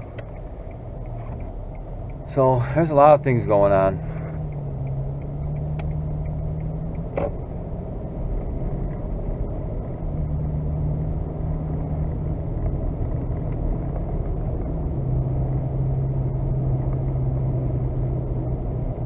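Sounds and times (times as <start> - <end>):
truck engine humming: 0.0 - 19.0.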